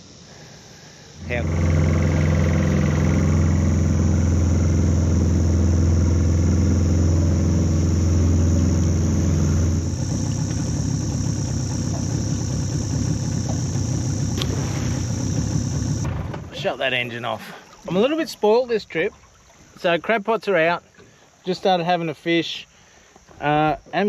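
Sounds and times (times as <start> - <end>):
outboard motor running: 0.0 - 21.4.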